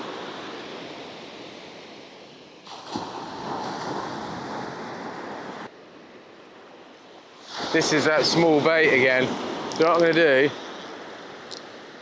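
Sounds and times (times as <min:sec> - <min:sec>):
waves washing on shore: 0:00.0 - 0:05.8, 0:06.5 - 0:12.0.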